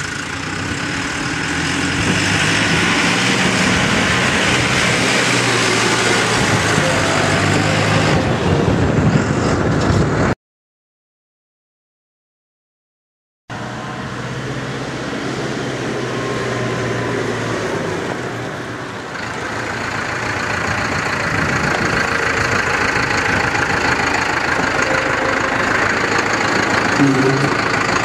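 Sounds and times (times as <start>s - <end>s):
tractor diesel engine running: 0.0s - 10.3s, 13.5s - 28.0s.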